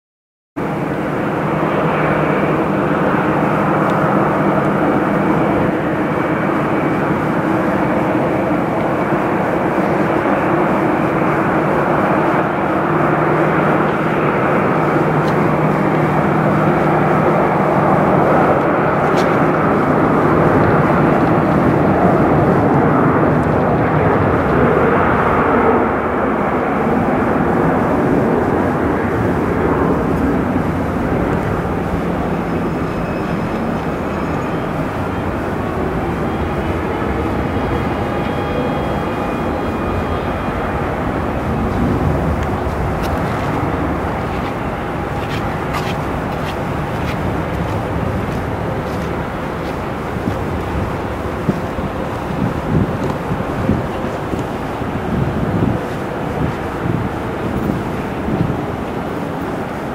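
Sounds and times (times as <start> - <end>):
jet engines roaring: 0.6 - 59.9.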